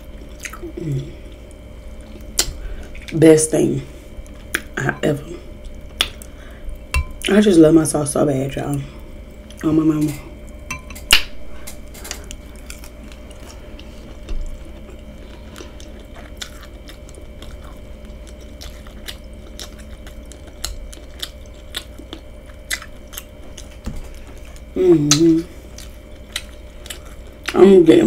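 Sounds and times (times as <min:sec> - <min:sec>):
person chewing food: 0:00.0 - 0:03.2, 0:04.1 - 0:04.8, 0:05.4 - 0:07.3, 0:10.4 - 0:27.6.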